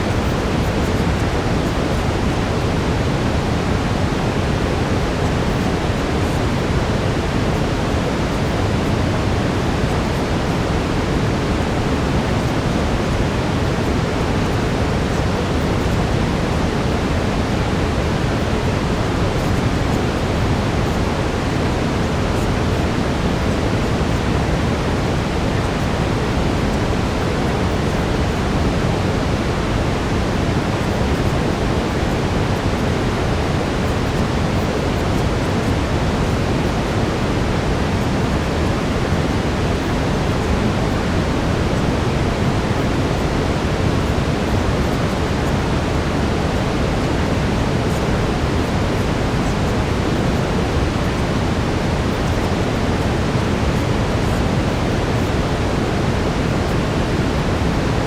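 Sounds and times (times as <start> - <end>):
brown noise: 0.0 - 58.0.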